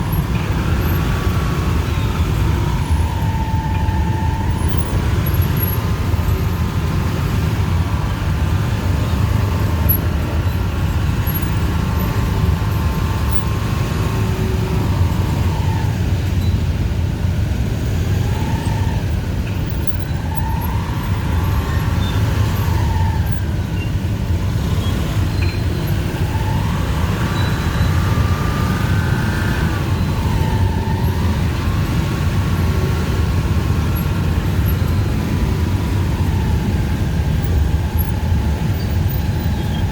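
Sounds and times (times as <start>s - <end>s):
low rumble of traffic engines: 0.0s - 39.9s
motorbike engines whining: 0.0s - 39.9s.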